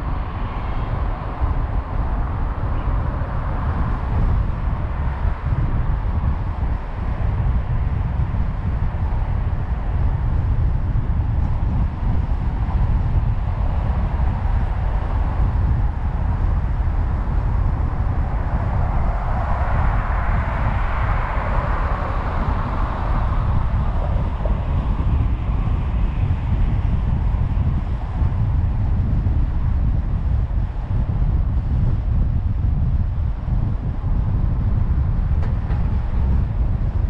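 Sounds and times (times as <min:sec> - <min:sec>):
wind and road noise in car: 0:00.0 - 0:37.0.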